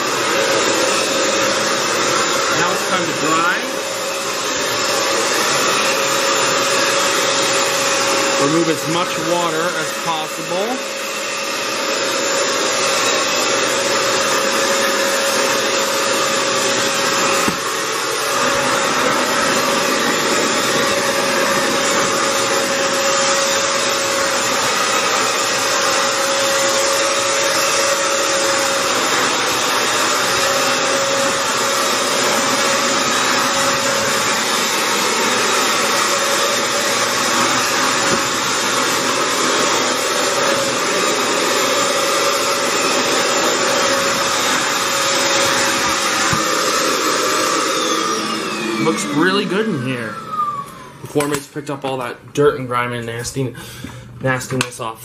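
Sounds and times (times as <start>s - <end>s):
floor cleaner motor whining: 0.0s - 52.0s.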